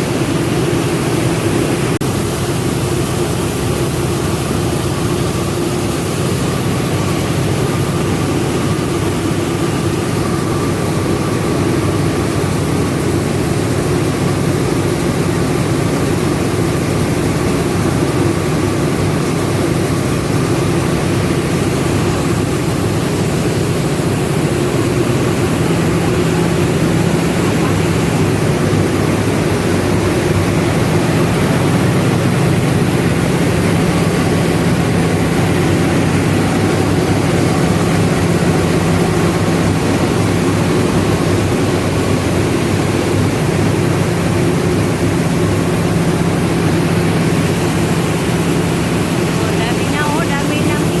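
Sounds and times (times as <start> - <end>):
milling machinery drone: 0.0 - 51.0.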